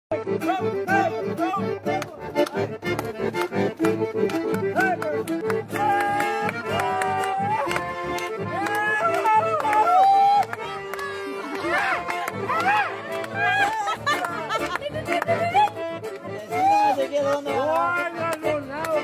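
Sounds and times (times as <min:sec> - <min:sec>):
button accordion playing folk music: 0:00.1 - 0:19.0
acoustic guitars strumming: 0:00.2 - 0:19.0.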